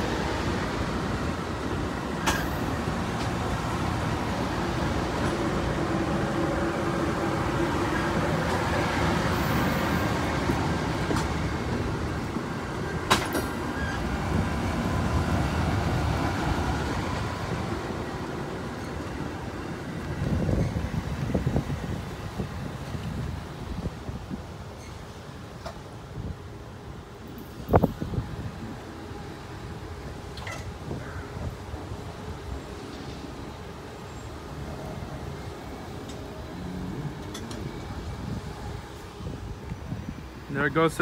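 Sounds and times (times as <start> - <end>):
steel train wheels rumbling on rail: 0.0 - 41.0.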